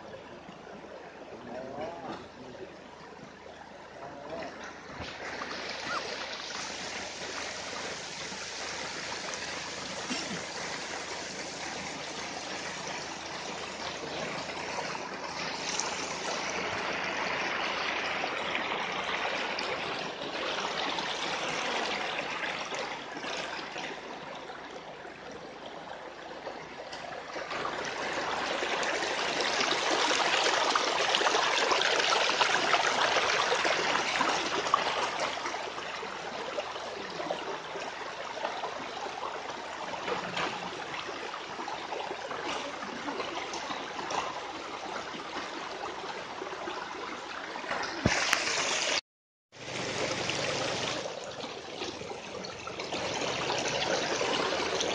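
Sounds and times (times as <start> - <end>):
stream rushing over stones: 3.9 - 24.4, 27.2 - 49.0, 49.6 - 54.9.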